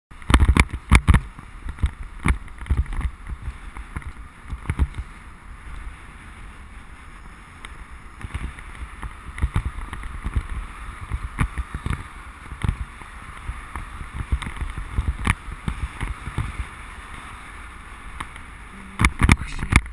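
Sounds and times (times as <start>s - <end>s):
bike rattling over bumps: 0.1s - 19.9s
bicycle tyre hiss on wet road: 0.2s - 19.9s
wind on microphone: 0.2s - 19.9s.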